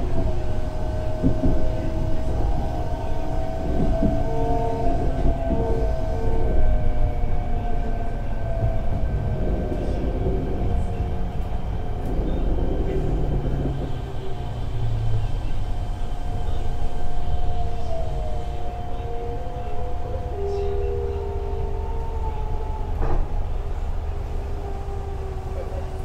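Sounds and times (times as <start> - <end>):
train wheel and rail rumble: 0.0 - 26.0.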